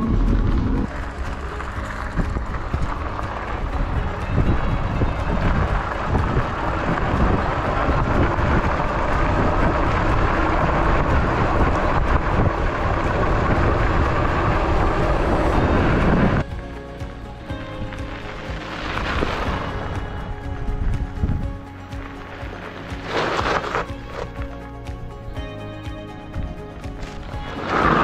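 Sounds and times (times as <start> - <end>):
wind rushing over microphone: 0.0 - 25.5
tyres rumbling on gravel: 0.0 - 28.0.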